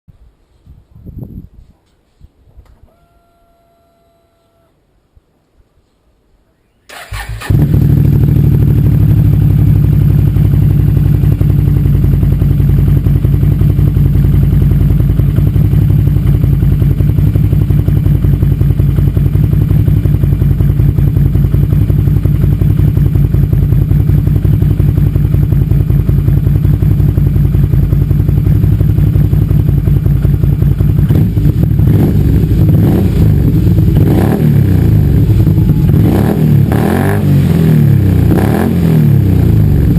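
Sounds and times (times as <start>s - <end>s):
atv engine starting and idling: 6.9s - 39.9s
engine revving: 6.9s - 39.9s.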